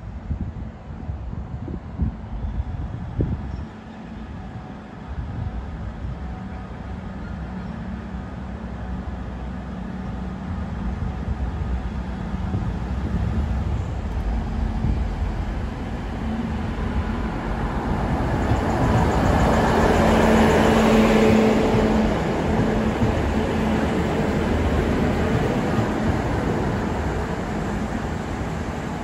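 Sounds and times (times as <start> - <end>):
train rumble: 0.0 - 29.0
low steady hum: 5.1 - 28.5.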